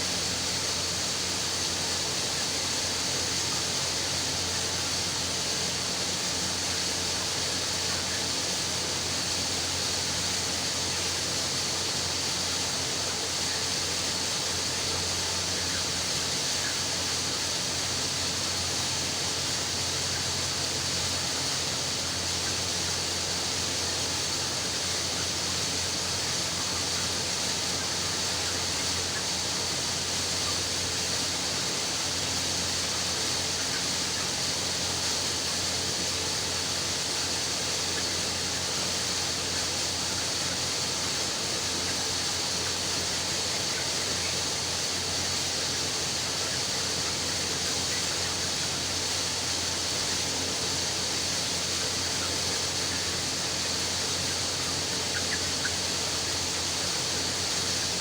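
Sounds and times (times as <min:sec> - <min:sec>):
many chicks peeping: 0:00.0 - 0:58.0.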